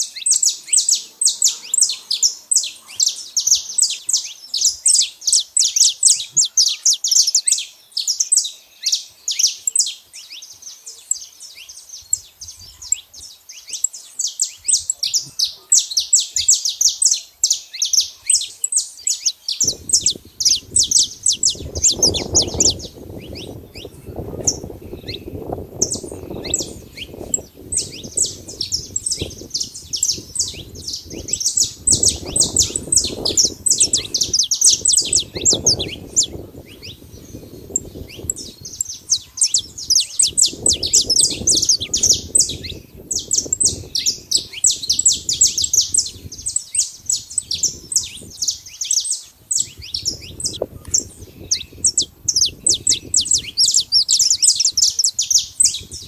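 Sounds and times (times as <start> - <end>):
finch singing rapid chirps: 0.0 - 56.0.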